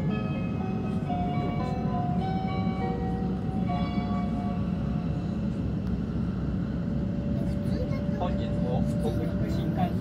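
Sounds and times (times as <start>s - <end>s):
train chime melody: 0.0s - 10.0s
train running rumble: 0.0s - 10.0s.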